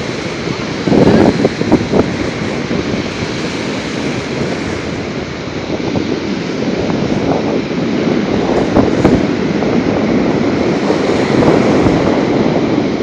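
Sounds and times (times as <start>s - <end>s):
rough surf breaking: 0.0s - 13.0s
wind buffeting microphone: 0.0s - 13.0s.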